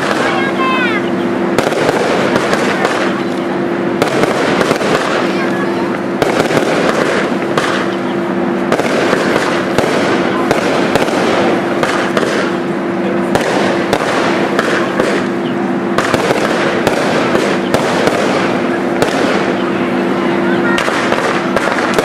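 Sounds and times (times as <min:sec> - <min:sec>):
firework bangs: 0:00.0 - 0:22.0
firework crackle: 0:00.0 - 0:22.0.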